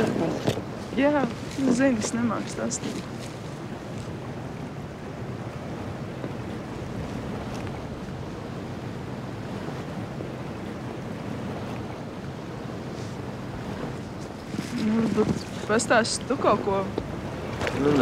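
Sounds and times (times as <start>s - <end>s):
sea waves: 0.0s - 18.0s
wind: 0.0s - 18.0s.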